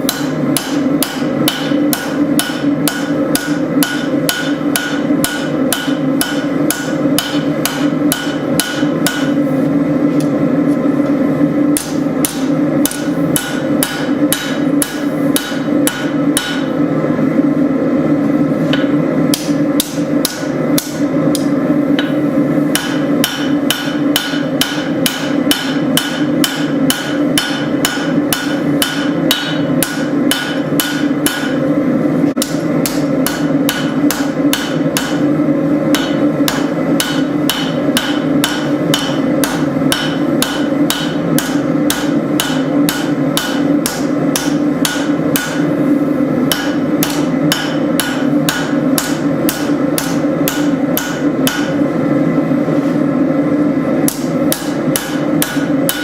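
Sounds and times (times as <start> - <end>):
hammer striking steel on anvil: 0.0 - 9.4, 11.7 - 16.8, 18.7 - 31.6, 32.4 - 35.3, 35.9 - 45.7, 46.5 - 51.8, 54.1 - 56.0.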